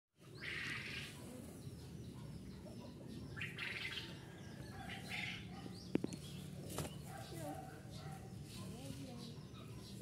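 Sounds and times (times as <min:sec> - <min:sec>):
small birds chirping: 0:00.2 - 0:10.0.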